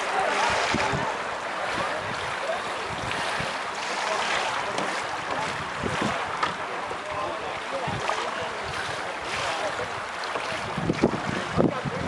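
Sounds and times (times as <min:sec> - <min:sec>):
water hiss and kayak paddling: 0:00.0 - 0:12.0
wind buffeting microphone: 0:00.0 - 0:12.0.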